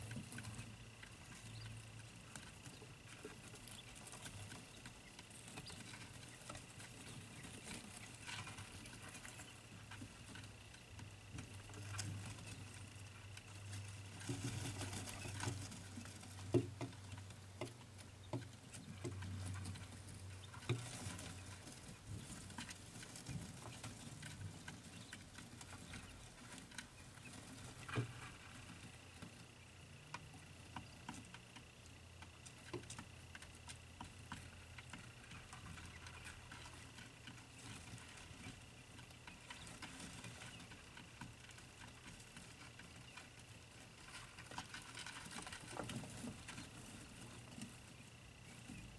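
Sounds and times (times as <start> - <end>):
chicks pecking and scratching: 0.0 - 48.9
steady low hum: 0.0 - 48.9.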